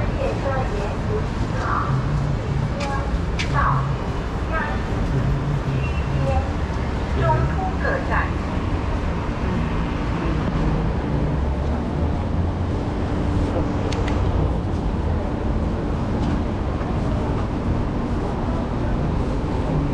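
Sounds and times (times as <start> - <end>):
low engine hum: 0.0 - 19.9
road traffic rumble: 0.0 - 19.9.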